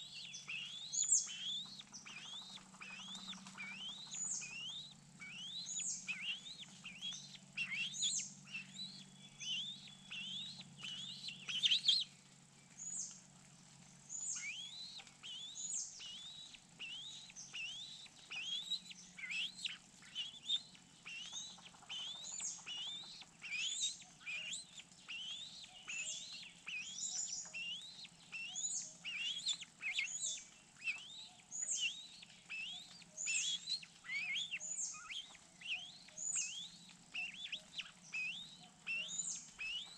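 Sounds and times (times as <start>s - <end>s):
birds chirping: 0.0s - 39.9s
faint low hum: 0.0s - 39.9s.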